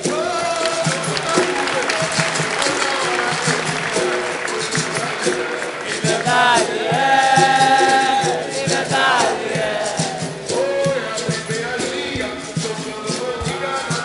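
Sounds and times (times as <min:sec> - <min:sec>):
berimbau and drum percussion: 0:00.0 - 0:14.0
call-and-response singing: 0:00.0 - 0:14.0
shaker rhythm: 0:00.0 - 0:14.0.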